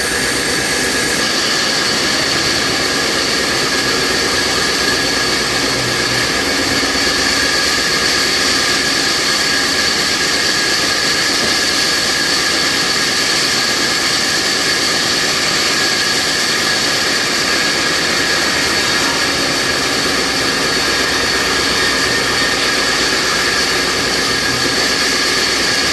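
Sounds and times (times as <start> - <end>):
band saw running: 0.0 - 25.9.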